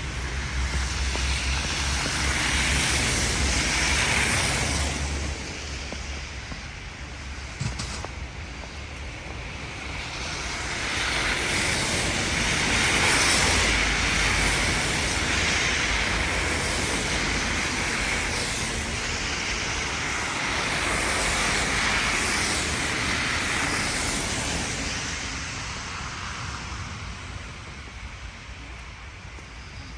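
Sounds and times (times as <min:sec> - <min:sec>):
rushing vehicle noise: 0:00.0 - 0:29.9.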